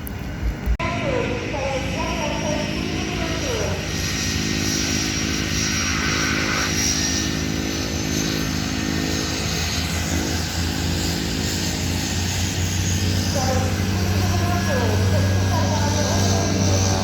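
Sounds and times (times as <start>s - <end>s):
propeller airplane engine running: 0.0s - 17.0s.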